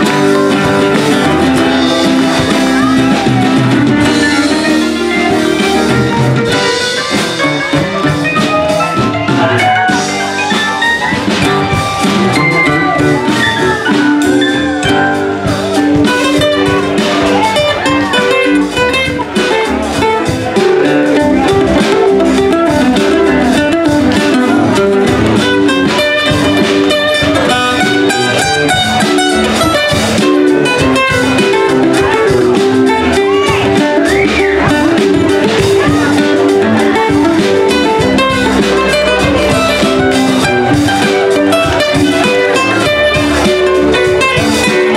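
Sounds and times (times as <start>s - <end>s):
live band playing instrumental: 0.0s - 44.9s.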